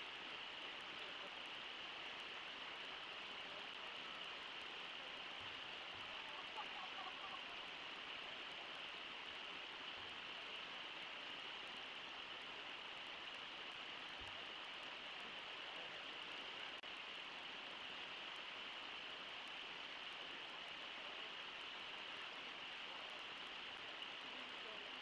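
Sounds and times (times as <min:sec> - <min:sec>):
rush of waterfall and river: 0:00.0 - 0:25.0.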